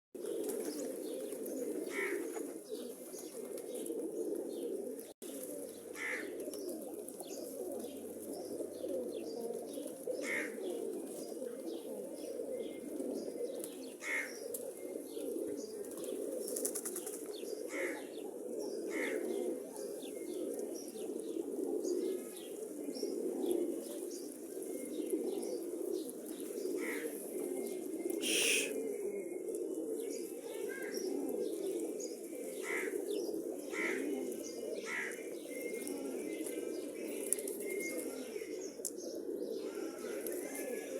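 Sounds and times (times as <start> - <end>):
pigeons cooing: 0.2 - 40.9.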